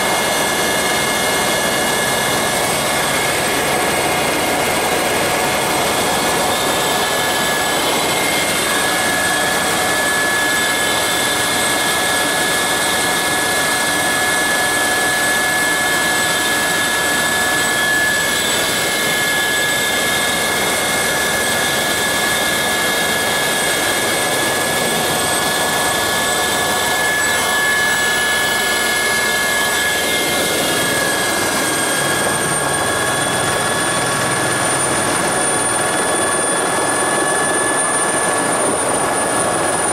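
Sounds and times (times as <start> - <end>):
helicopter engine whine: 0.0 - 39.9.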